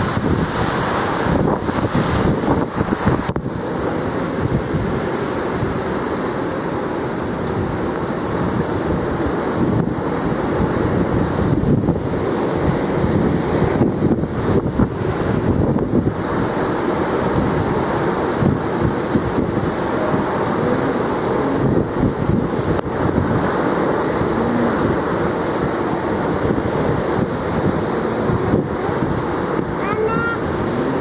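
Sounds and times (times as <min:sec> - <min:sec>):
strong wind blowing: 0:00.0 - 0:31.0
wind buffeting microphone: 0:00.0 - 0:31.0.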